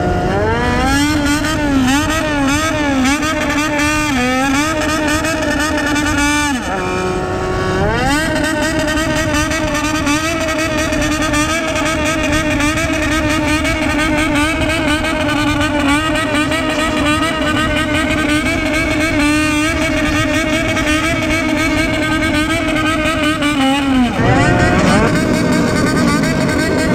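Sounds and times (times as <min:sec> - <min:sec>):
motorcycle engine revving high: 0:00.0 - 0:26.9.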